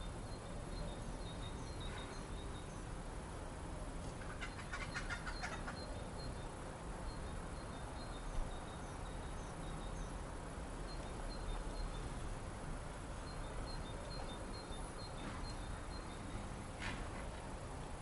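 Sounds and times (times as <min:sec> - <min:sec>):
small birds chirping: 0:00.0 - 0:03.0, 0:04.0 - 0:16.7
outdoor background hiss: 0:00.0 - 0:18.0.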